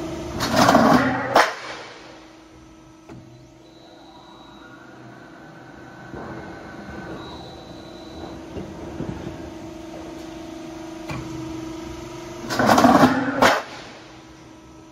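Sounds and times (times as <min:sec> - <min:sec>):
machine motor hum: 0:00.0 - 0:14.9.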